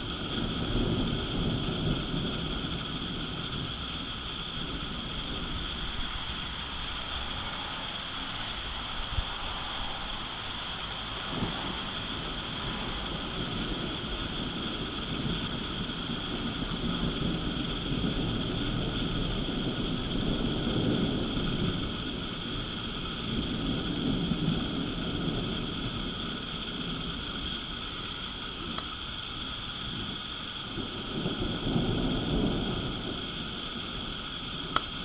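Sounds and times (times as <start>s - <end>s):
distant thunder rumbling: 0.0s - 35.0s
steady high hiss: 0.0s - 35.0s.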